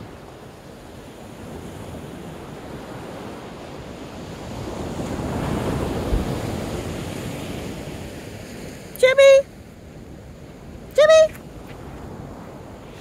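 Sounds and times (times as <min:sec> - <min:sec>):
wind on microphone: 0:00.0 - 0:08.9, 0:09.8 - 0:13.0
ocean waves breaking: 0:00.0 - 0:13.0.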